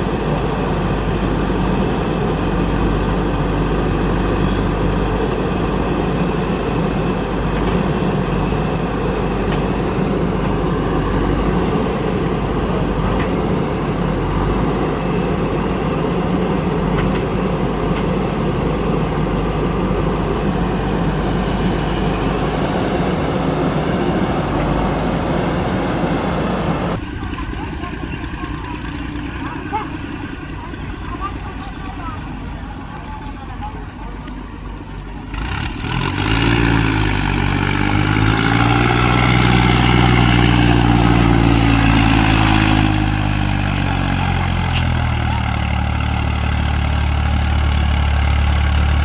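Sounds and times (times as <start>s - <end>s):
diesel machinery engine running: 0.0s - 49.0s.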